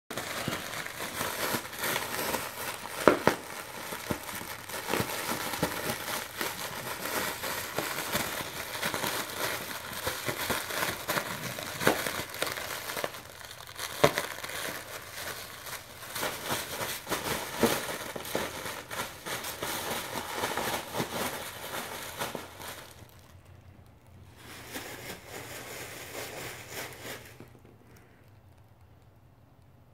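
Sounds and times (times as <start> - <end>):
bubble wrap cracks: 0.1 - 29.4
bubble wrap crinkling: 0.1 - 29.4.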